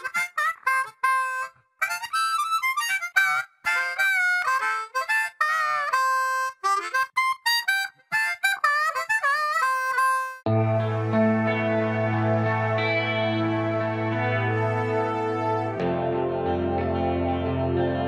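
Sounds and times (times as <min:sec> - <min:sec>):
solo harmonica melody: 0:00.0 - 0:15.8.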